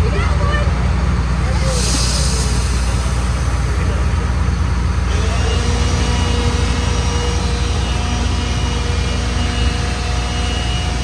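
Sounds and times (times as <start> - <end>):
tractor diesel engine running: 0.0 - 11.0
thin steady whine: 1.6 - 11.0.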